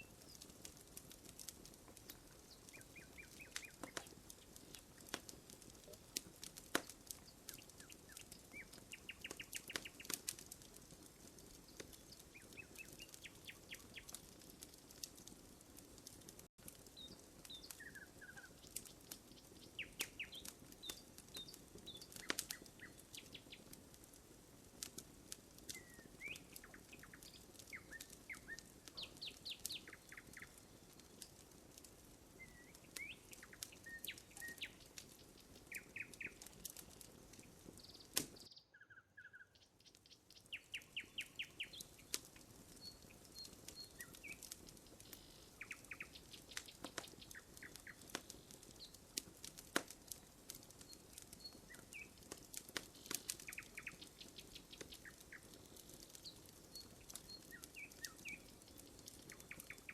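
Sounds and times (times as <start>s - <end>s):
wood fire crackling and popping: 0.0s - 38.5s, 39.2s - 59.9s
small birds chirping: 0.0s - 59.9s.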